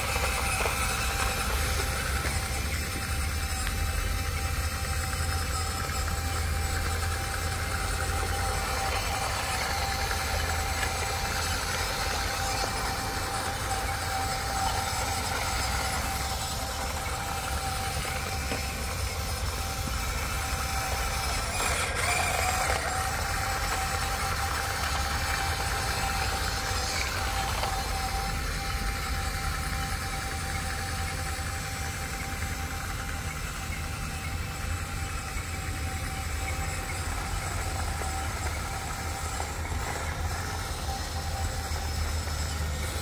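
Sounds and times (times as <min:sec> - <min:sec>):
toy excavator motor humming: 0:00.0 - 0:43.0.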